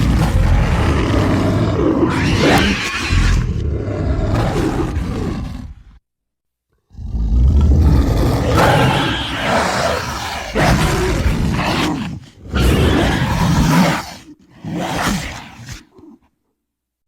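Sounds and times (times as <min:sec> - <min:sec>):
creature roars: 0:00.0 - 0:06.0, 0:06.9 - 0:16.2.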